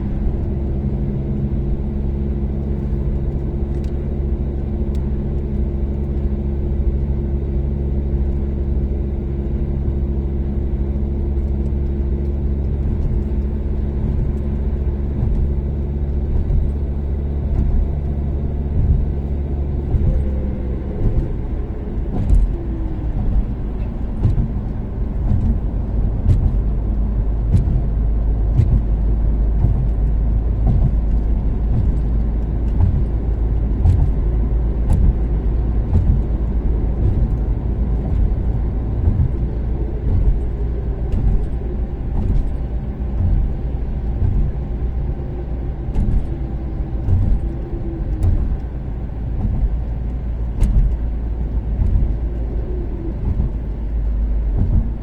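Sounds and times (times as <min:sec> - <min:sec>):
car engine drone: 0:00.0 - 0:55.0
road noise rumble: 0:00.0 - 0:55.0.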